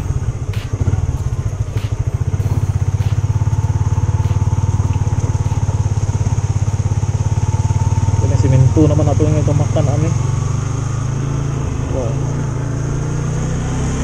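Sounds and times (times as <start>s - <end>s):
motorcycle engine running at low revs: 0.0s - 14.0s.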